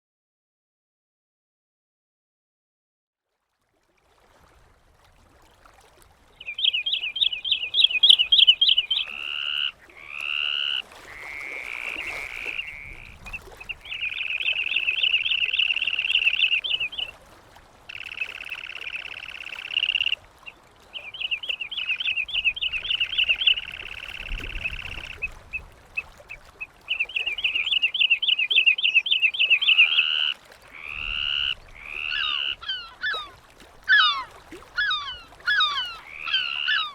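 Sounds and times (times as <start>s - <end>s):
seabirds calling: 6.3s - 17.2s, 17.8s - 36.9s.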